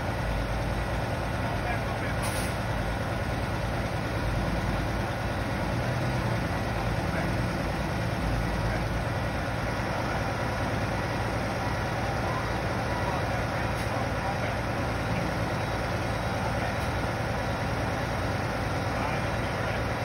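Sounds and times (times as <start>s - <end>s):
truck diesel engines idling: 0.0s - 20.0s.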